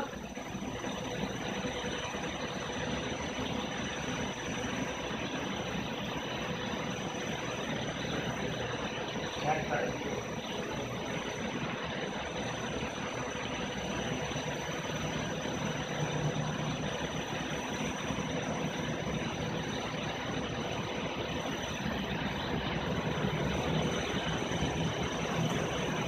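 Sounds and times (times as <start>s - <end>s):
faint high whine: 0.0s - 26.0s
fan drone: 0.0s - 26.0s.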